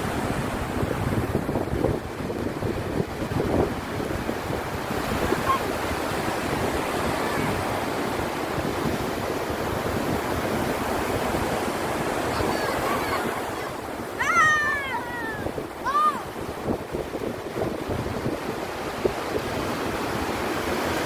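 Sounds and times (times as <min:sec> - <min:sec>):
surf breaking on beach: 0:00.0 - 0:21.0.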